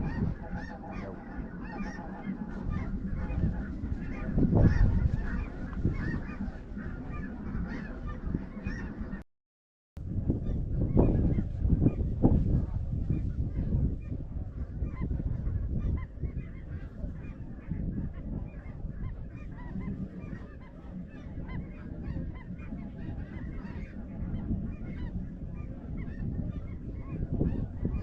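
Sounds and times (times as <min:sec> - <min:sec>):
geese calling: 0:00.0 - 0:09.2, 0:10.4 - 0:28.0
steady low rumble: 0:00.0 - 0:09.2, 0:10.0 - 0:28.0.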